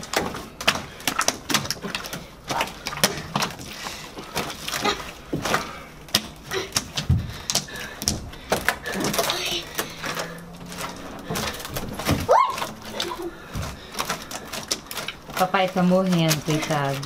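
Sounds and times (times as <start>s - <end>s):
slime squelching and popping: 0.0s - 17.0s.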